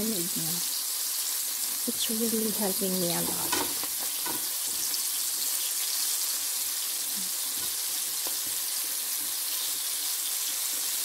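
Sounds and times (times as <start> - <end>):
shrimp deep-frying in oil: 0.0 - 11.0.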